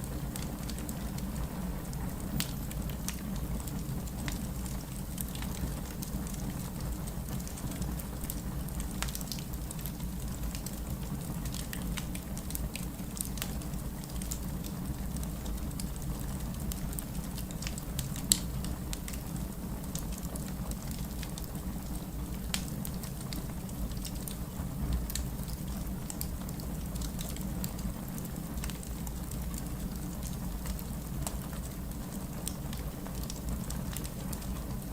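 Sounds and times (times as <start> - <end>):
campfire flames rushing: 0.0 - 34.9
fire crackles and pop: 0.0 - 34.9.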